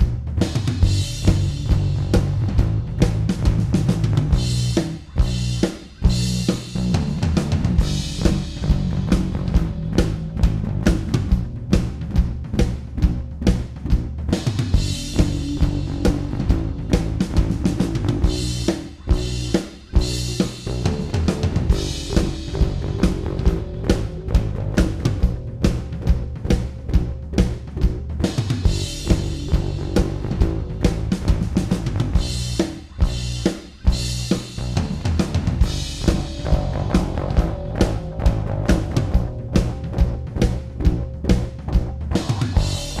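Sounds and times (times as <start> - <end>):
drum kit groove: 0.0 - 43.0
low bass notes: 0.0 - 43.0.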